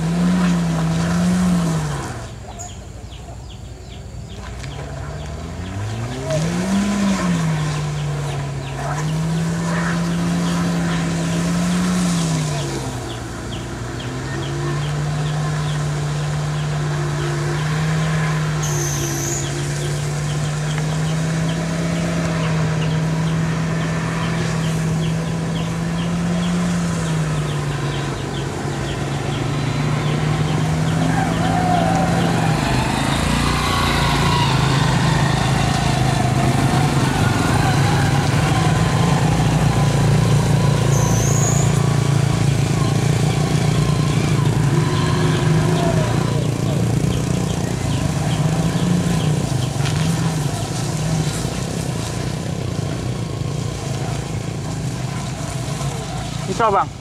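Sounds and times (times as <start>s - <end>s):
van engine revving: 0.0s - 3.2s, 4.4s - 57.0s
motorcycle engines: 0.0s - 57.0s.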